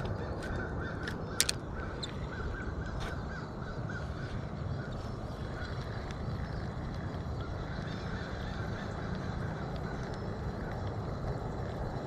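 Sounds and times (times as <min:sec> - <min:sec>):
birds calling: 0:00.0 - 0:11.2
steady low rumble: 0:00.0 - 0:12.0.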